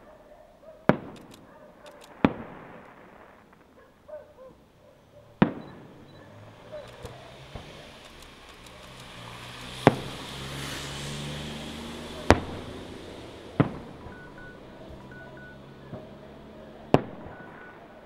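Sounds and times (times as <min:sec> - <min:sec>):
fireworks bangs: 0:00.8 - 0:04.1, 0:05.2 - 0:18.0.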